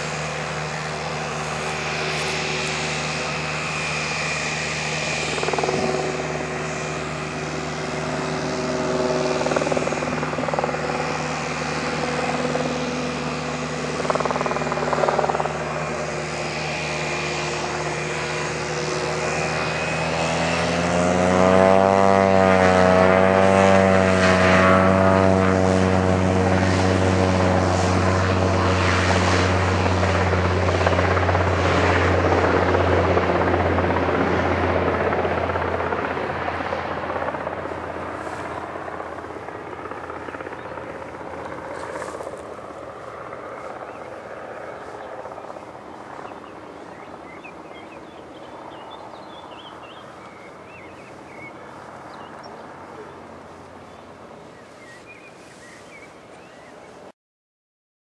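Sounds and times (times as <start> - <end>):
turboprop plane propeller drone: 0.0 - 57.1.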